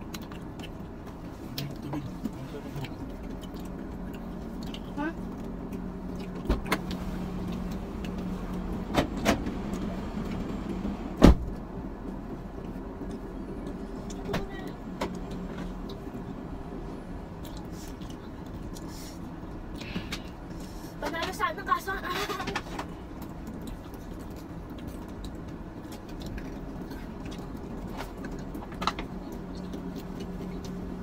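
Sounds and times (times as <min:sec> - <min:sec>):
vehicle cabin engine hum: 0:00.0 - 0:31.0.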